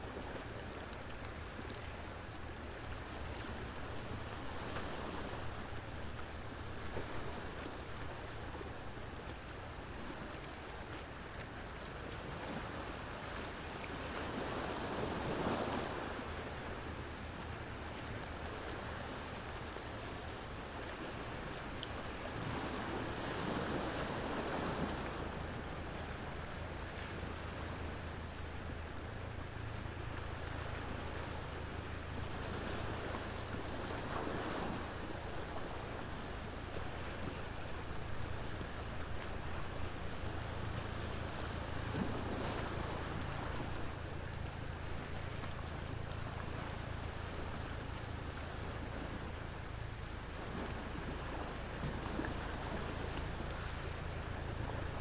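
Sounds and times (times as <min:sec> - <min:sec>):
low steady rumble: 0:00.0 - 0:55.0
ocean waves washing ashore: 0:00.0 - 0:55.0.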